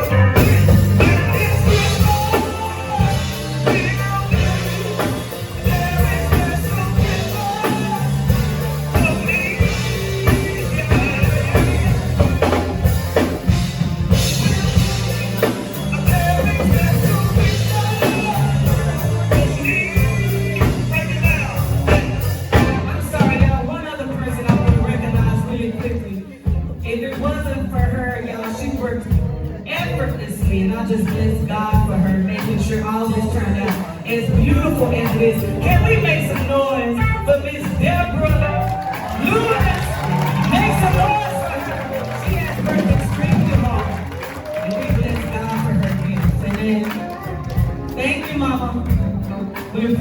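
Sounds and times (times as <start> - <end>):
bass line: 0.0 - 50.0
drum kit beat: 0.0 - 50.0.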